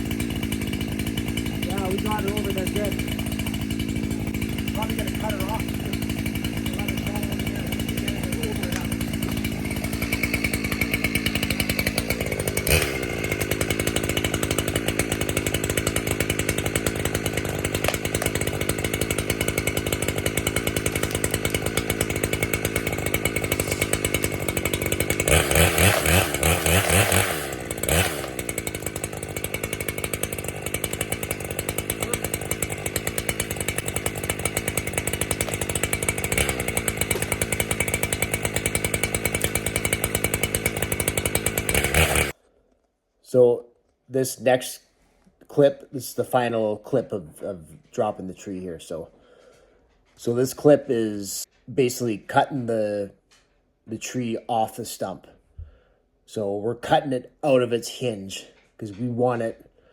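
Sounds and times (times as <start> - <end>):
chainsaw running and revving: 0.0 - 42.4, 46.0 - 53.0, 56.4 - 59.6.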